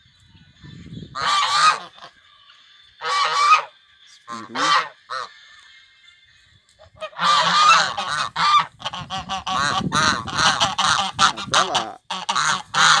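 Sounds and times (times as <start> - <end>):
geese honking: 0.5 - 13.0.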